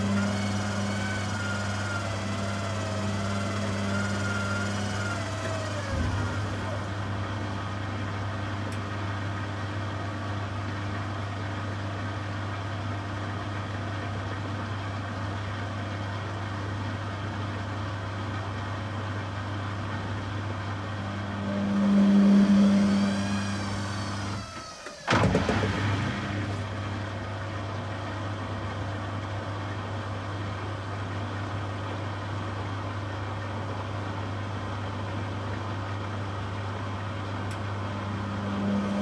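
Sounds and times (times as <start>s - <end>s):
washing machine motor: 0.0s - 39.0s.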